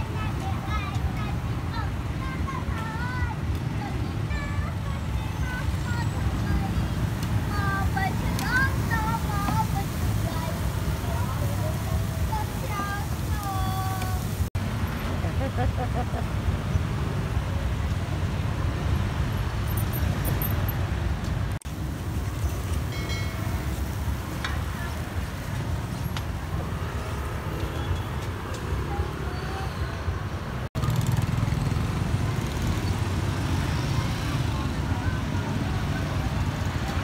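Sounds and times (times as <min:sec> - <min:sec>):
voices: 0:00.0 - 0:18.7, 0:23.0 - 0:37.0
low rumble of road traffic: 0:00.0 - 0:37.0.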